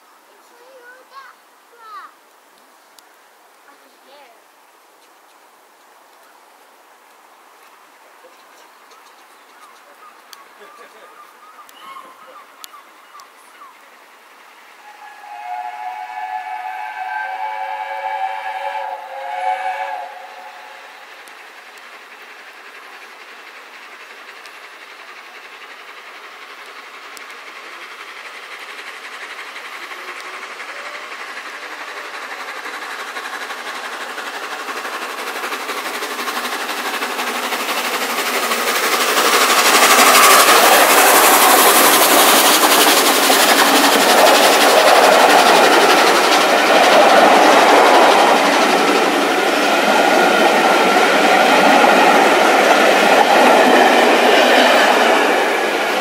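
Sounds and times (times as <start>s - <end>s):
rushing noise of train coaches: 0.0s - 2.1s, 5.6s - 56.0s
steam locomotive passing: 0.0s - 56.0s.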